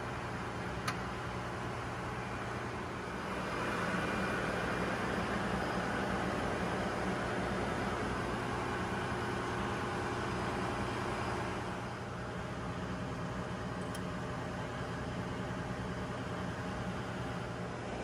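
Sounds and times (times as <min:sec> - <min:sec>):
engine room machinery drone: 0:00.0 - 0:18.0.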